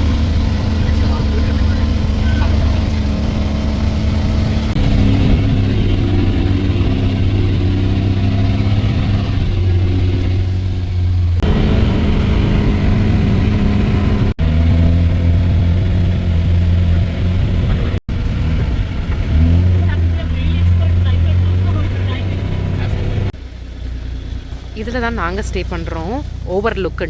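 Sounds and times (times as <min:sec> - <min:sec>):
road noise: 0:00.0 - 0:27.0
vehicle engine running: 0:00.0 - 0:27.0.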